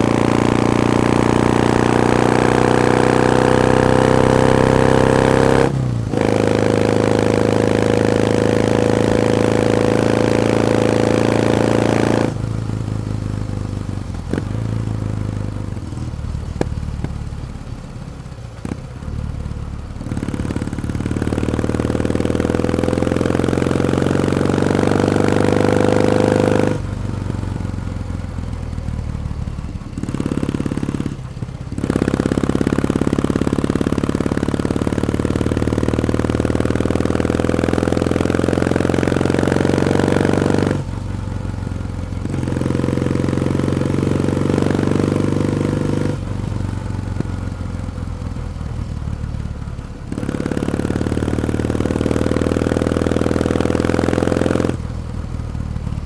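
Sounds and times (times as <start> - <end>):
motorcycle engine pulling under throttle: 0.0 - 56.0.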